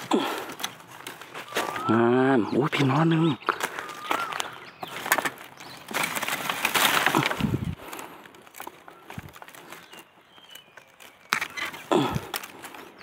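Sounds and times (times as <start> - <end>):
dry leaves rustling and crunching: 0.0 - 13.0.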